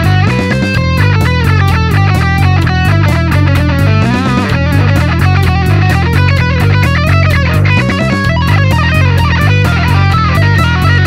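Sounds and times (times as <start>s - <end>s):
distorted electric guitar lead: 0.0s - 11.0s
low guitar chugging: 0.0s - 11.0s.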